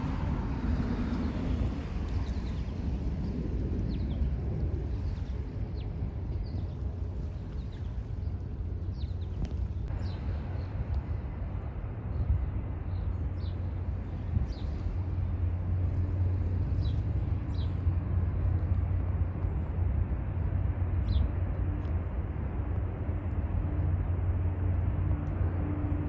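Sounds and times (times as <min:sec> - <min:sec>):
distant jet airliners rumbling: 0:00.0 - 0:26.0.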